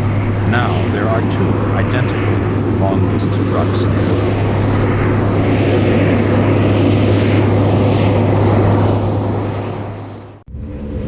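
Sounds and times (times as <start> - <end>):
aircraft engine drone: 0.0 - 11.0
wide rushing noise: 0.0 - 11.0.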